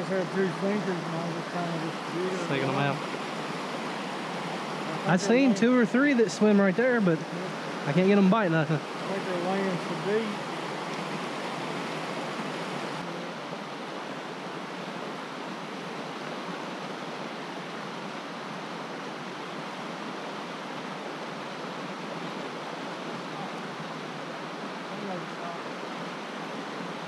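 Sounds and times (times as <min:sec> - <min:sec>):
creek water rushing over stones: 0:00.0 - 0:27.0.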